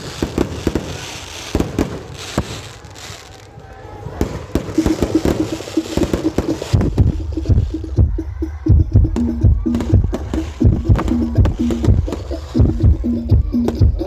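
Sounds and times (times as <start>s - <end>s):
fireworks bangs and pops: 0.0s - 8.2s, 8.8s - 14.0s.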